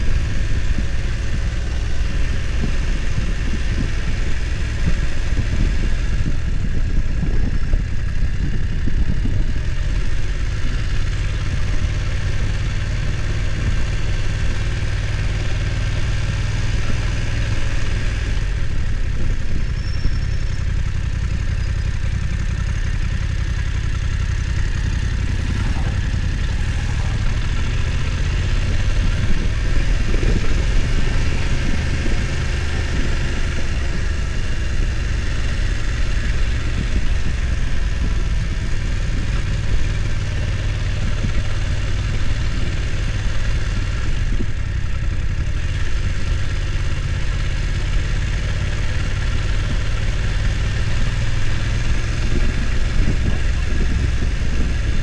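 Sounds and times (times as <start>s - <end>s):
motorcycle engine running at low revs: 0.0s - 55.0s.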